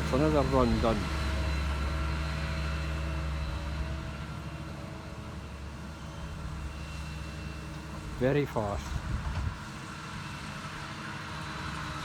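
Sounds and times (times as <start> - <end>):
farm machinery engine humming: 0.0 - 12.0.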